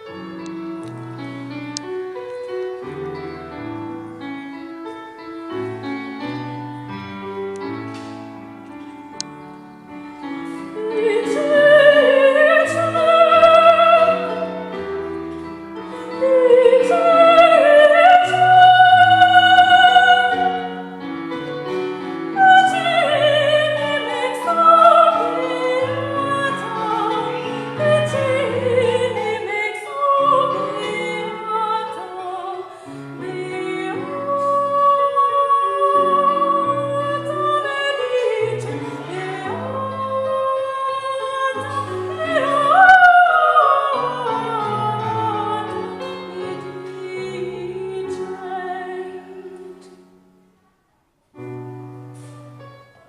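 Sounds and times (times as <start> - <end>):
piano accompaniment: 0.0 - 53.0.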